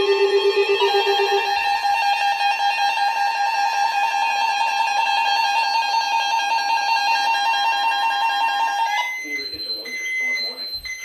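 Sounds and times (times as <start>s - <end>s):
fluttering two-tone alarm: 0.0s - 11.0s.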